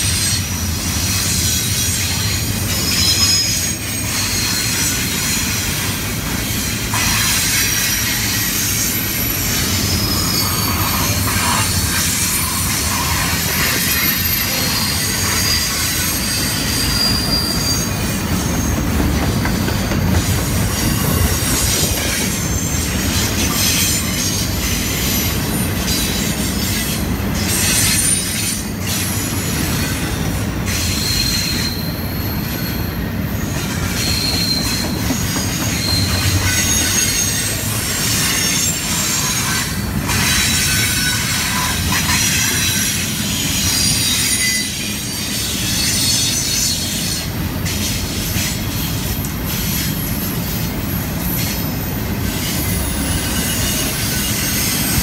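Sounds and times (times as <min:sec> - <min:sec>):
train wheels rumbling on rail: 0:00.0 - 0:55.0
wheel squeals: 0:01.1 - 0:05.6, 0:06.4 - 0:55.0.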